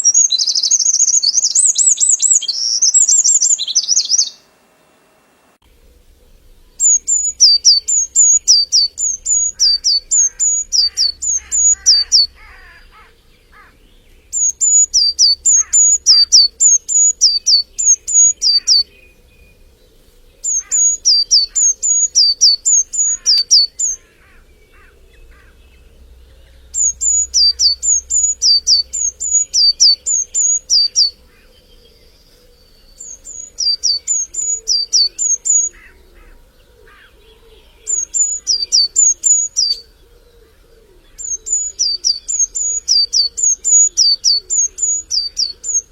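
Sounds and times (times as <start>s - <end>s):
songbird whistled song: 0.0s - 4.5s, 5.8s - 45.9s
other birds calling: 0.0s - 4.6s, 5.7s - 45.9s.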